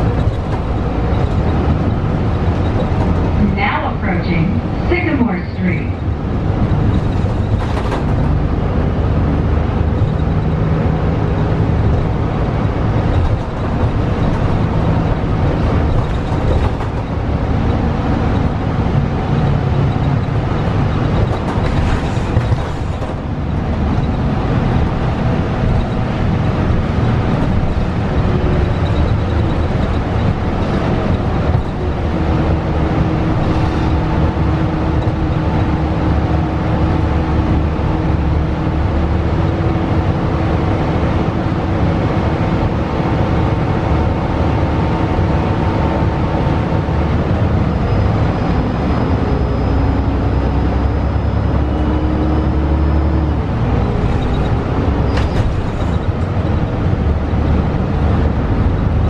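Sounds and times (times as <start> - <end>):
bus road rumble: 0.0 - 59.0.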